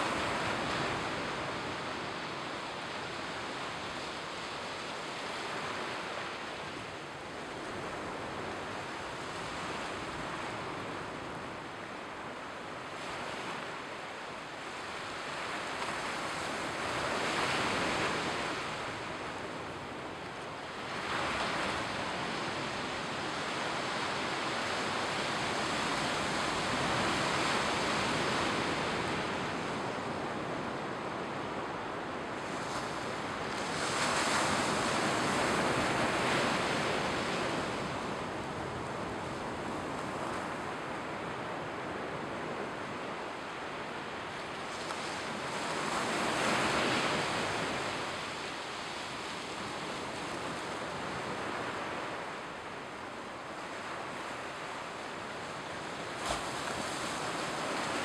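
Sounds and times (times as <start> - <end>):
waves breaking on a sandy beach: 0.0 - 58.0.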